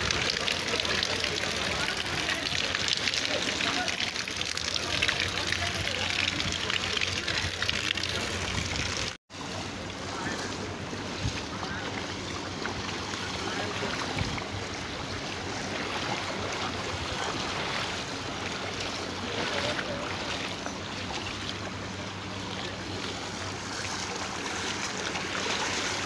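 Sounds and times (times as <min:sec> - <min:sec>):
feet splashing through floodwater: 0:00.0 - 0:26.0.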